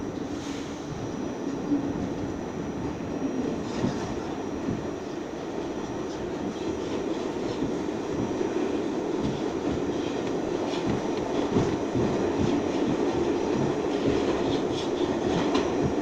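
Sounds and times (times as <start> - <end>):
subway train wheels rumbling: 0.0 - 16.0.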